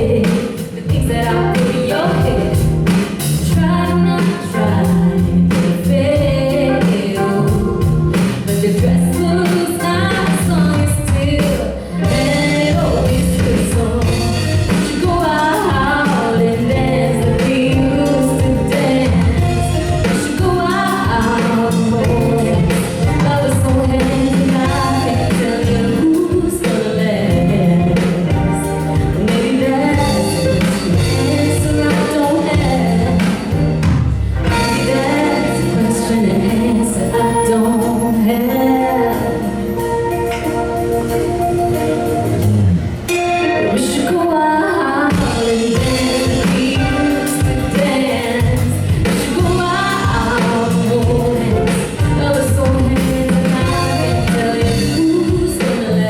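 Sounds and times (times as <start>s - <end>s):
instrumental accompaniment with beat: 0.0s - 44.2s, 45.1s - 56.0s
person singing live: 0.0s - 56.0s.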